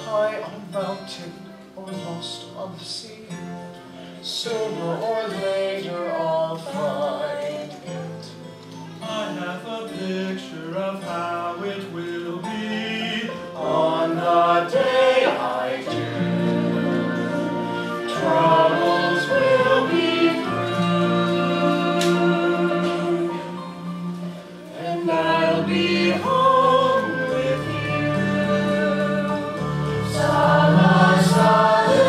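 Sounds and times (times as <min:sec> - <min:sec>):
person singing with held notes: 0:04.3 - 0:32.0
instrumental accompaniment: 0:04.8 - 0:32.0.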